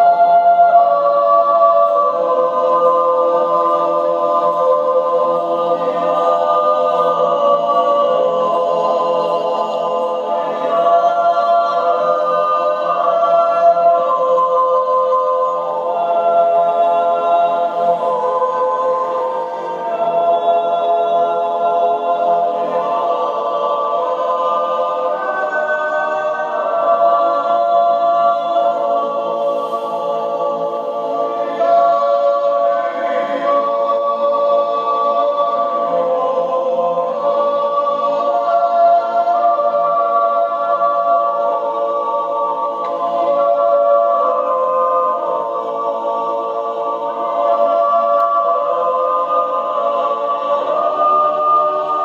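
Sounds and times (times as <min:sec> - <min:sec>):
a cappella choir singing: 0:00.0 - 0:52.0.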